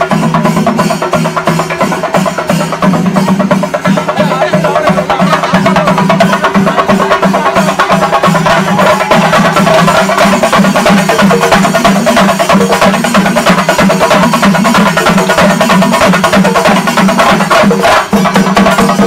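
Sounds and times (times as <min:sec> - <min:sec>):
fast procession drumming: 0:00.0 - 0:19.0.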